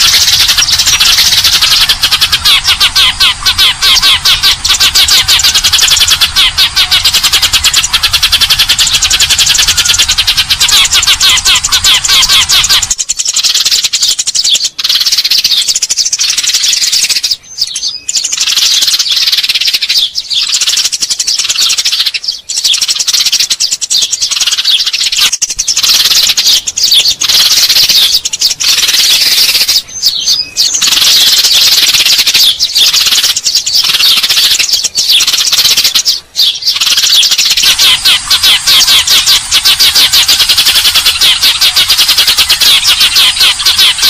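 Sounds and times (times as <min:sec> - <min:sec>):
sparrows chirping: 0:00.0 - 0:44.0.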